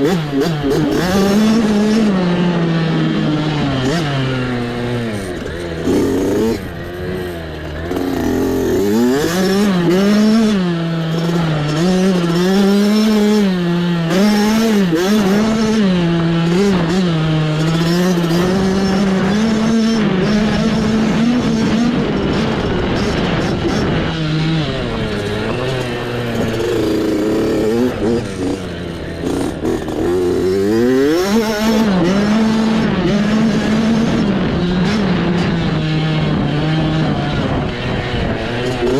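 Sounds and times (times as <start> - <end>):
mini bike engine revving: 0.0 - 38.9.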